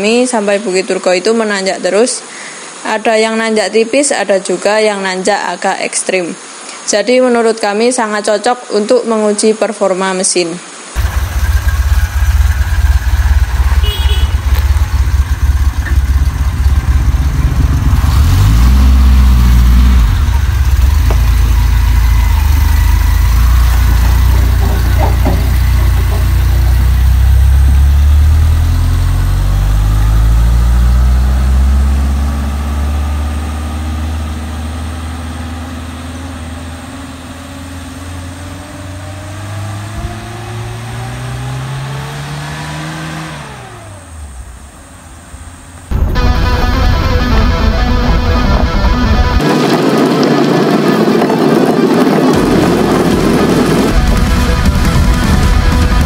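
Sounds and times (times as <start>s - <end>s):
jeep engine idling and revving: 11.0s - 56.0s.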